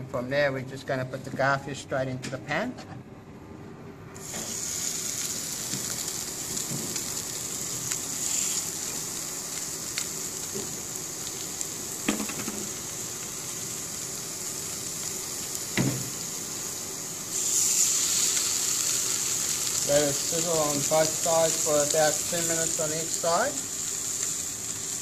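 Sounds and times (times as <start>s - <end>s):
fish sizzling in oil: 4.2s - 25.0s.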